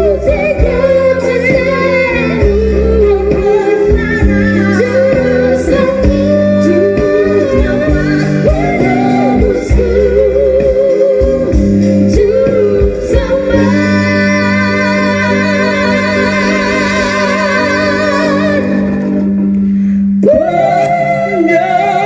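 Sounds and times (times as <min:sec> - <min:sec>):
person singing with vibrato: 0:00.0 - 0:22.0.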